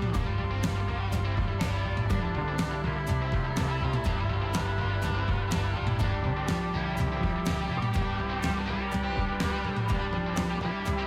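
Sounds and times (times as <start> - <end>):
guitar-led rock music: 0.0 - 11.0.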